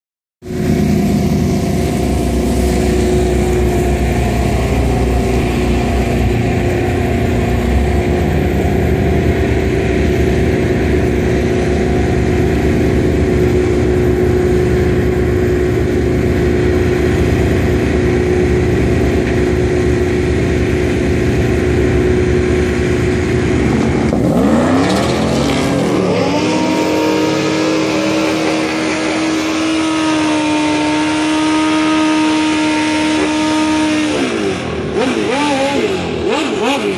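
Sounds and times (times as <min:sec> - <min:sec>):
pickup truck engine rumbling: 0:00.4 - 0:31.2
truck engine revving: 0:00.5 - 0:36.9.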